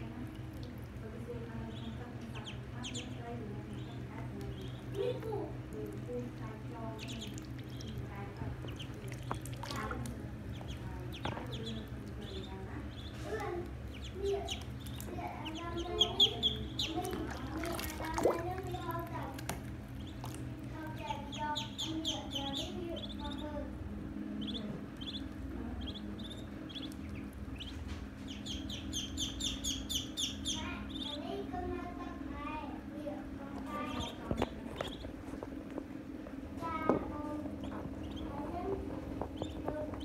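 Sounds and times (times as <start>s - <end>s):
ducklings peeping: 0.0s - 40.0s
steady low hum: 0.0s - 40.0s.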